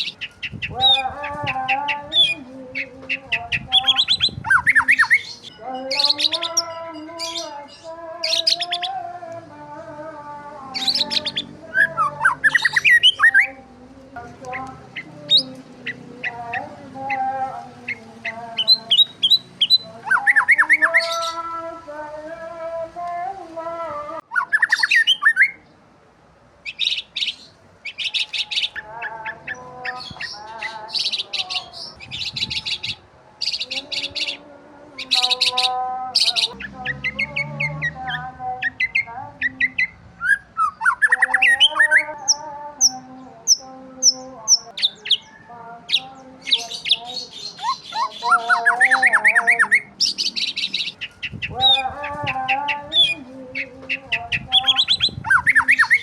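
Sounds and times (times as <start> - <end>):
birds chirping and calling: 0.0 - 25.8, 26.6 - 56.0.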